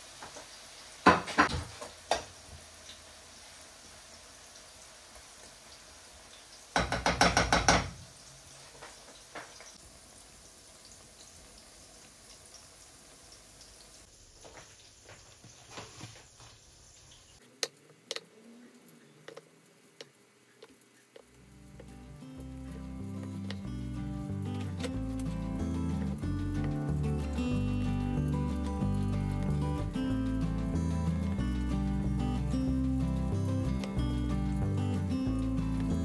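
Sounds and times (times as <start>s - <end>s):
aubergine sizzling in oil: 0.0s - 36.0s.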